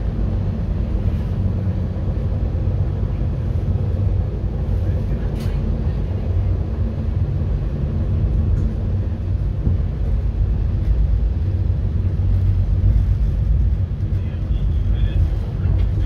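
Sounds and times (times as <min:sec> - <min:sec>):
passenger train rumbling on track: 0:00.0 - 0:16.0.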